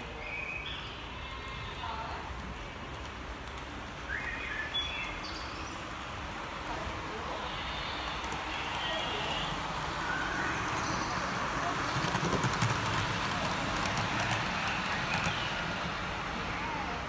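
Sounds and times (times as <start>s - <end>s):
indistinct chatter of people: 0.0s - 4.3s, 5.1s - 17.0s.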